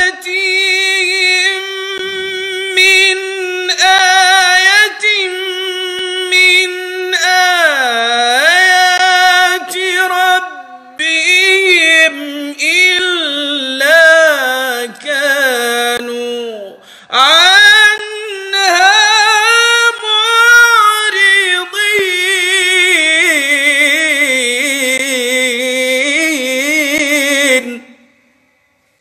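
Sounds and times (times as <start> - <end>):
man chanting melodically: 0.0 - 28.2.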